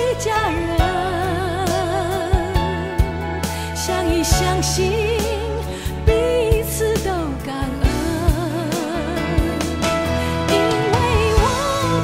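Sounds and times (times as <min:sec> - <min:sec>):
slow song with vibrato melody: 0:00.0 - 0:12.0.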